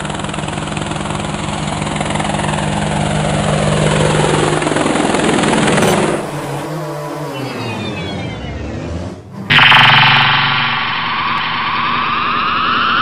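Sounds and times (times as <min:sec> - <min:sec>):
drone rotors buzzing: 0:00.0 - 0:13.0.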